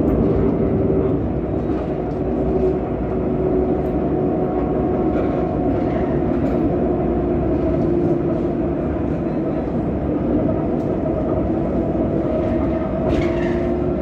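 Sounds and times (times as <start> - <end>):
tram rolling rumble: 0.0 - 14.0.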